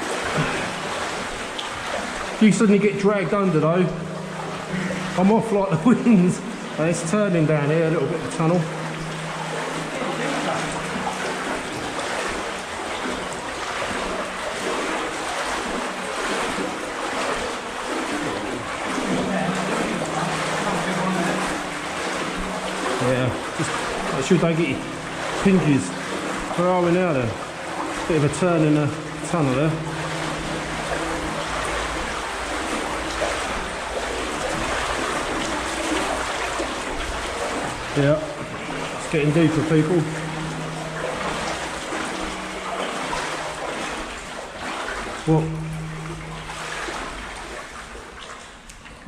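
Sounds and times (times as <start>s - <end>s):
water sloshing around wading legs: 0.0s - 49.0s.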